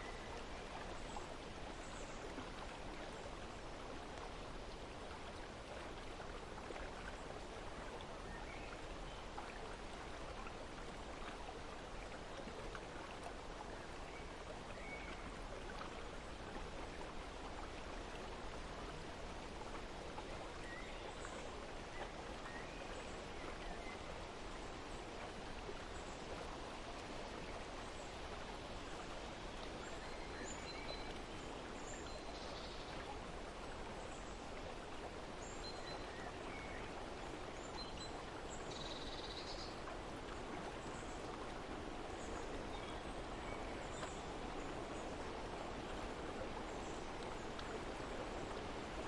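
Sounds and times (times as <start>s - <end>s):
flowing water rushing: 0.0s - 49.0s.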